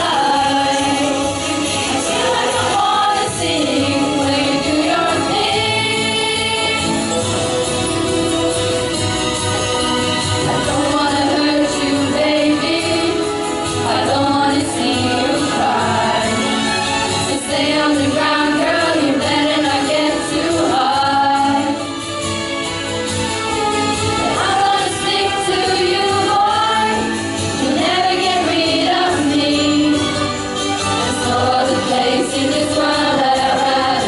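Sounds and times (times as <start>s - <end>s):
pop song with singing voices: 0.0s - 34.0s.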